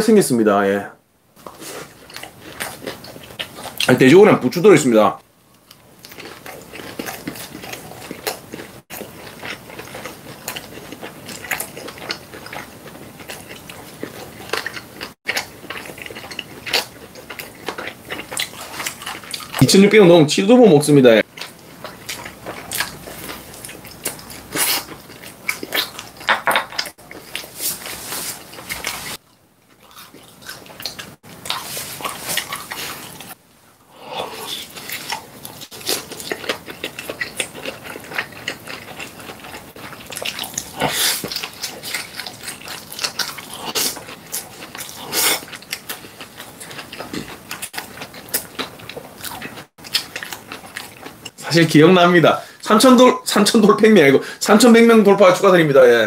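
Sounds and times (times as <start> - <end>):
chewing and mouth smacks: 1.4 - 3.9, 5.5 - 19.6, 21.2 - 33.4, 34.3 - 51.4.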